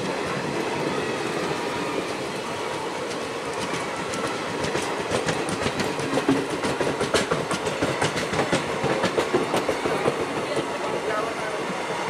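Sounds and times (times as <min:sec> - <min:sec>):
train wheels clicking on track: 0:00.0 - 0:12.0.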